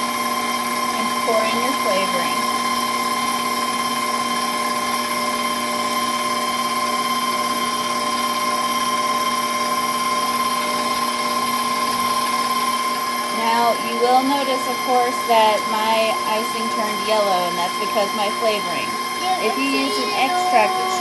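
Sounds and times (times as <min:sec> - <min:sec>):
stand mixer motor whine: 0:00.0 - 0:21.0.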